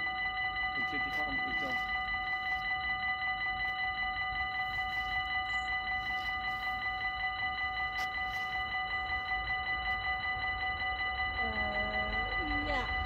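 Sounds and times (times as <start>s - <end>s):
level crossing bell ringing: 0.0s - 13.0s.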